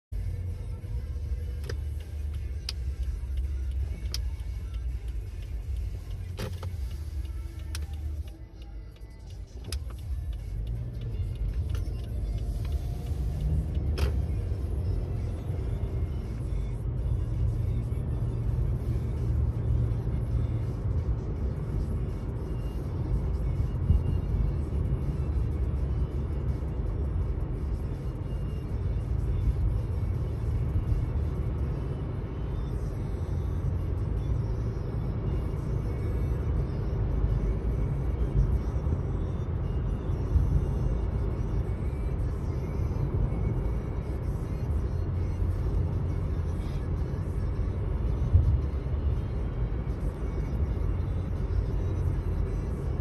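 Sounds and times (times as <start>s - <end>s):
engine and road rumble in car: 0.1s - 53.0s.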